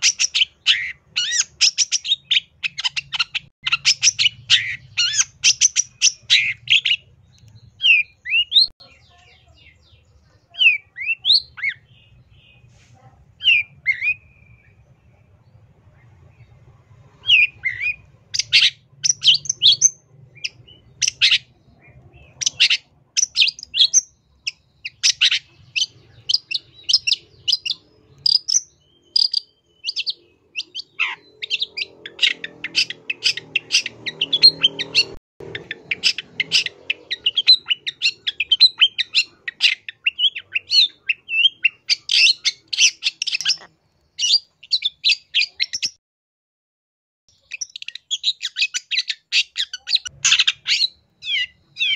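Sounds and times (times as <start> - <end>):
bird chattering and whistling song: 0.0 - 15.2, 16.0 - 46.0, 47.3 - 51.9.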